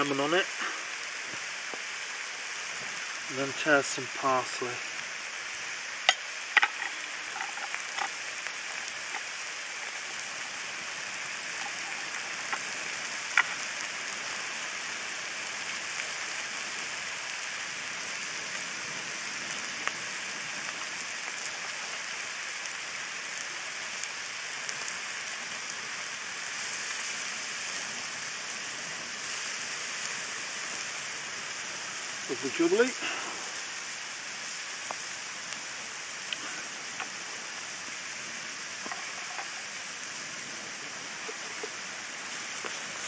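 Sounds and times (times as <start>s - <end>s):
kebab sizzling: 0.0s - 43.0s.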